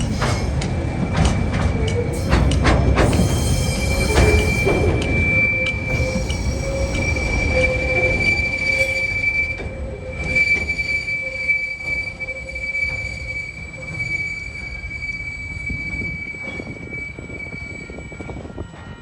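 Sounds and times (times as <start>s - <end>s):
lower wheel squeal: 0.0s - 19.0s
train wheels rumbling: 0.0s - 19.0s
high-pitched wheel squeal: 1.8s - 18.8s.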